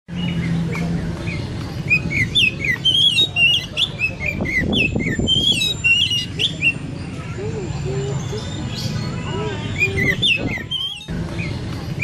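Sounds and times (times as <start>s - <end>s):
songbirds singing: 0.1s - 12.0s.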